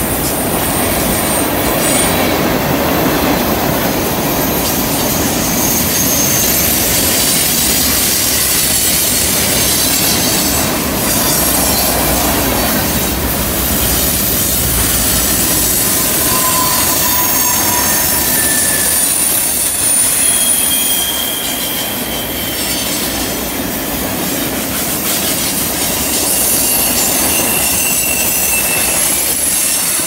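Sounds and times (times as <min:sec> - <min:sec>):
train rolling rumble: 0:00.0 - 0:30.0
train wheels squealing on rail: 0:00.0 - 0:30.0.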